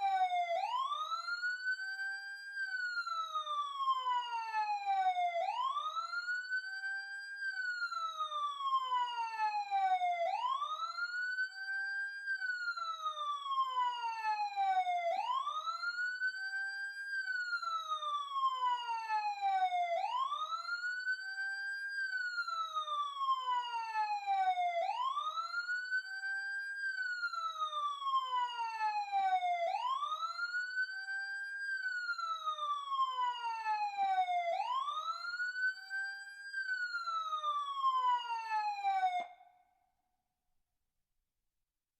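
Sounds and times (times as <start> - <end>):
police siren wailing: 0.0 - 39.5.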